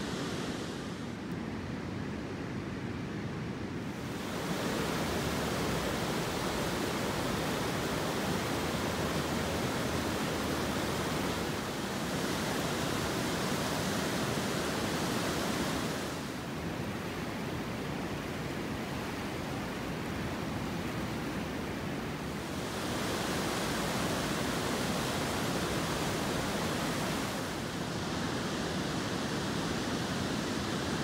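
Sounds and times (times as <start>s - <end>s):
river rushing over rapids: 0.0s - 1.2s, 3.7s - 31.0s.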